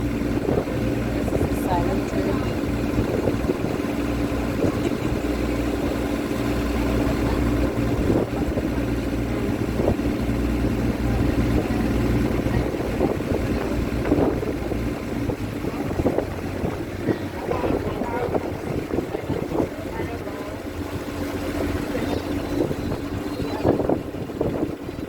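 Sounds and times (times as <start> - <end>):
water rushing past: 0.0 - 24.9
boat engine droning: 0.0 - 25.0
wind buffeting microphone: 0.0 - 25.0.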